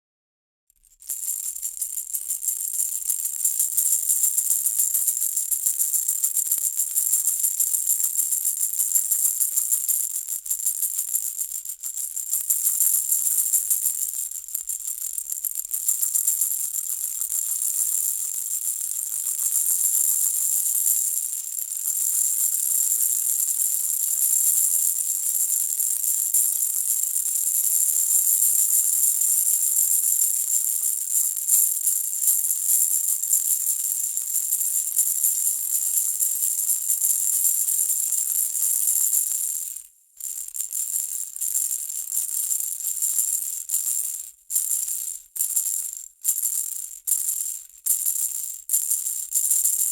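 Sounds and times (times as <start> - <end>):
rattle toy shaken: 0.7 - 49.9.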